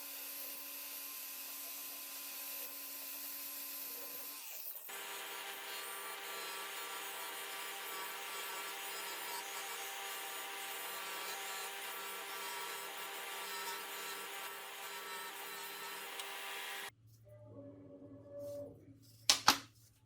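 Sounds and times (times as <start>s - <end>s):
power tool grinding metal: 0.0s - 16.9s.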